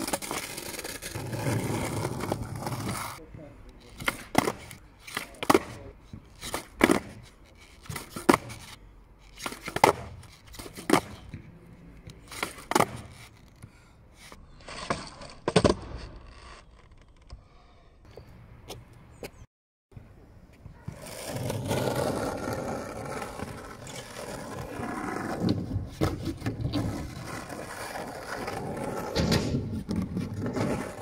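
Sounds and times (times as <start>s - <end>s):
skateboard clacks on asphalt: 0.0s - 3.2s, 3.8s - 17.4s, 20.5s - 31.0s
skateboard scraping: 0.0s - 17.9s, 20.6s - 31.0s.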